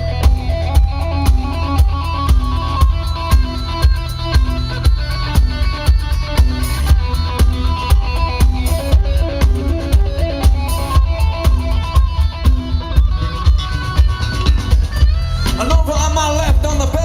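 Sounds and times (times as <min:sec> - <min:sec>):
drum beat: 0:00.0 - 0:17.0
guitar playing: 0:00.0 - 0:17.0
heavy bass: 0:00.0 - 0:17.0
live band music: 0:00.0 - 0:17.0.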